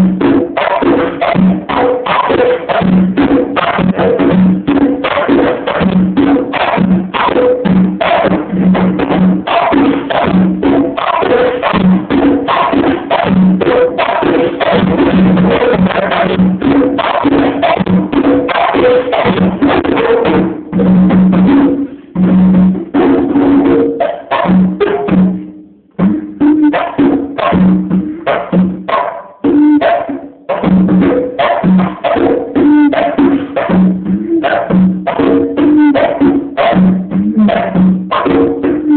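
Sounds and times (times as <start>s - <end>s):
conga drums played by hand: 0.0s - 38.9s.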